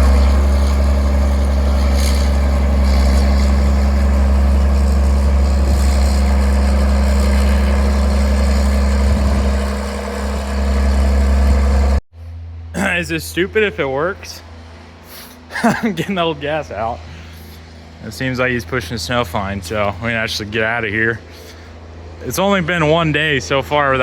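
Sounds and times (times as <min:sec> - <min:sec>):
engine humming steadily: 0:00.0 - 0:24.0.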